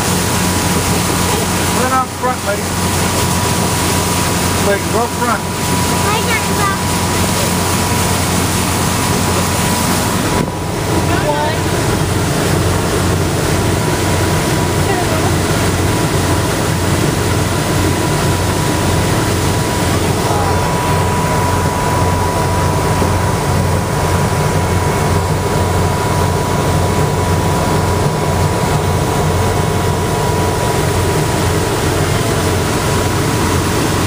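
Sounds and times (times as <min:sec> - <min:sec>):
motorboat engine drone: 0:00.0 - 0:34.0
thin steady whine: 0:00.0 - 0:34.0
wind and water rushing: 0:00.0 - 0:34.0.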